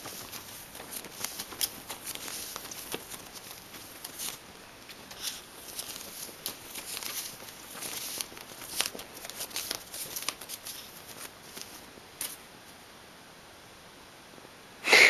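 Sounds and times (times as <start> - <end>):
bedsheet fabric rustling: 0.0 - 12.4.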